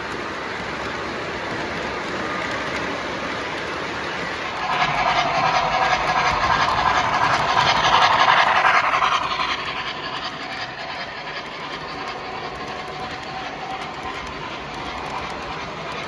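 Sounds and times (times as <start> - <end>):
model train wheels rumbling and clicking: 0.0 - 16.0.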